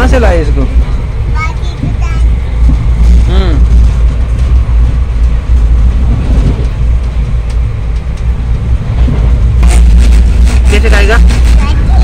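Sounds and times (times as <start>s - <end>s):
train rumble inside coach: 0.0s - 12.0s.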